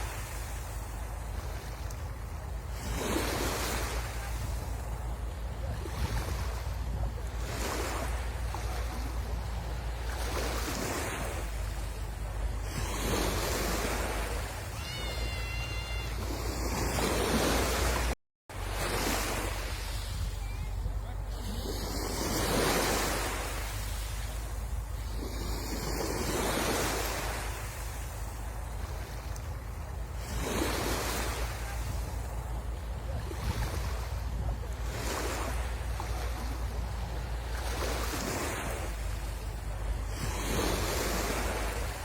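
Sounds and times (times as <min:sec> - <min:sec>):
wind rumble on microphone: 0:00.0 - 0:14.8, 0:15.8 - 0:42.0
sea waves washing onto beach: 0:00.0 - 0:42.0.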